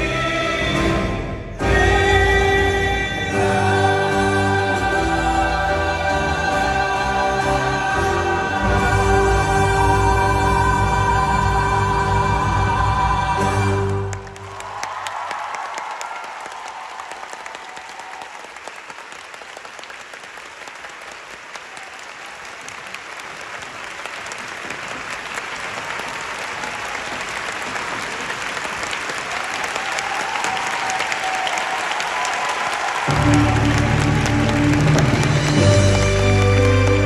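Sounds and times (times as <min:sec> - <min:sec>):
audience applauding: 0:03.6 - 0:37.0.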